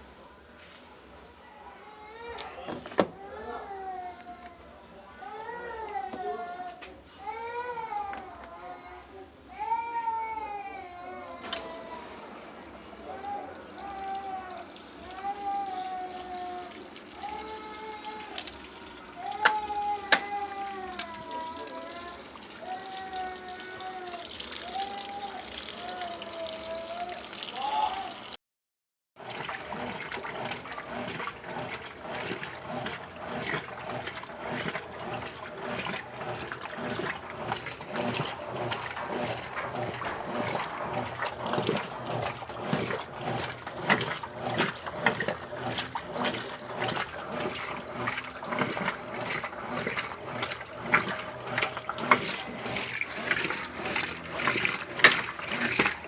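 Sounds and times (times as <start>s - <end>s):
water running into washing machine: 9.6s - 28.4s, 29.2s - 56.0s
water sloshing in washing machine: 9.6s - 28.4s, 29.2s - 56.0s.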